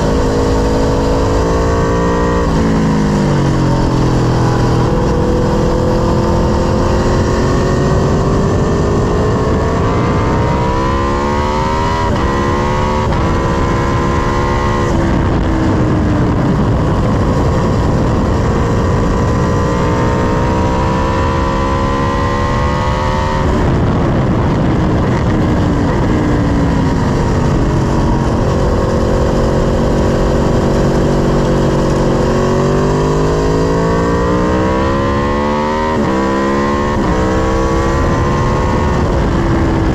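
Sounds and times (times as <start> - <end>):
heavy wind rush: 0.0 - 39.9
motorcycle engine at hard throttle: 0.0 - 39.9.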